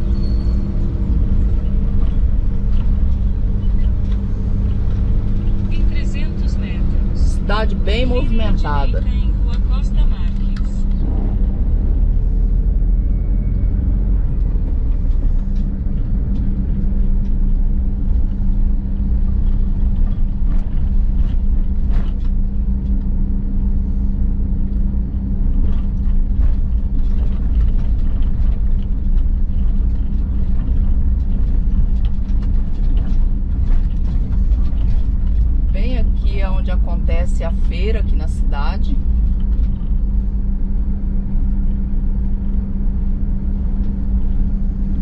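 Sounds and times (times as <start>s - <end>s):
engine drone and road rumble: 0.0s - 45.0s.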